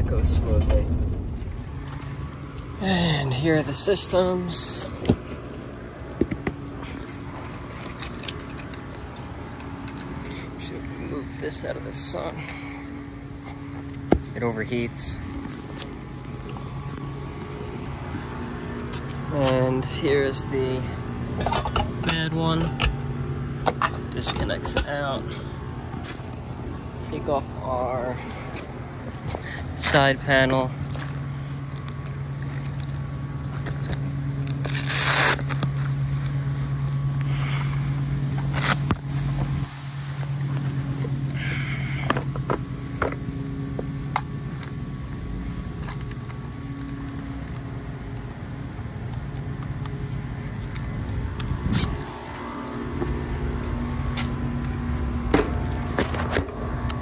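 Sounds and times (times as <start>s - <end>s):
machinery humming: 0.0s - 57.0s.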